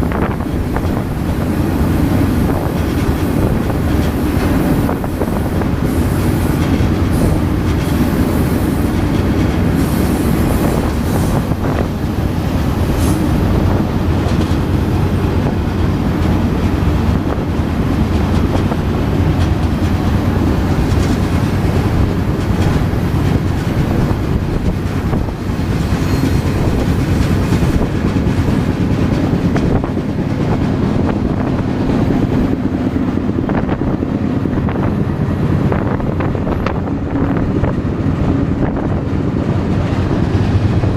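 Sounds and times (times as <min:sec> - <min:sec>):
freight train rumble: 0:00.0 - 0:40.9
wheels clacking over rails: 0:00.0 - 0:40.9.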